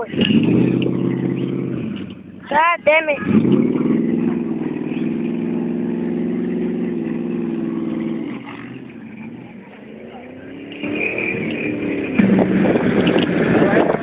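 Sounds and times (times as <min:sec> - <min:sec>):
pickup truck engine revving: 0:00.0 - 0:14.0.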